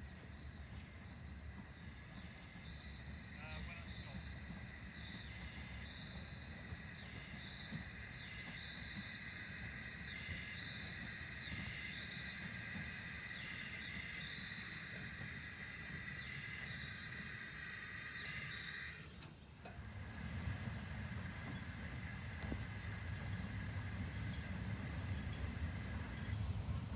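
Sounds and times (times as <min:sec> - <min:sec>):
steam locomotive hissing: 0:00.0 - 0:26.9.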